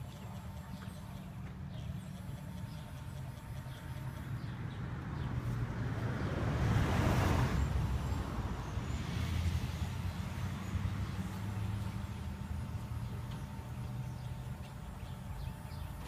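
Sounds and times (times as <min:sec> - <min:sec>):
road vehicle passing: 0:00.0 - 0:16.0
steady low hum: 0:00.0 - 0:16.0.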